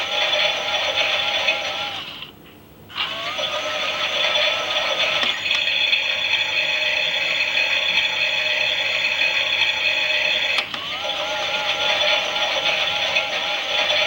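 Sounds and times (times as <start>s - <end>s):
toy motor and gears whirring: 0.0s - 2.2s, 2.9s - 14.0s.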